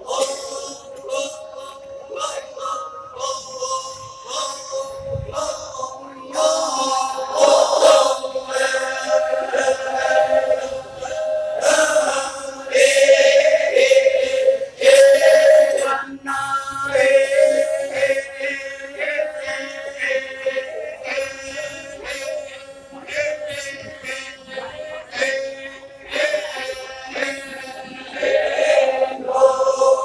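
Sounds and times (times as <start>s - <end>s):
group of male voices chanting: 0.0s - 30.0s.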